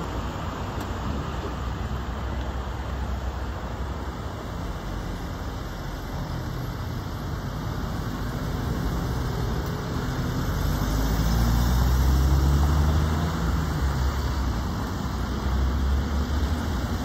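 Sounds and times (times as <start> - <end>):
car engines passing: 0.0 - 17.0
heavy truck engine hum: 0.0 - 17.0.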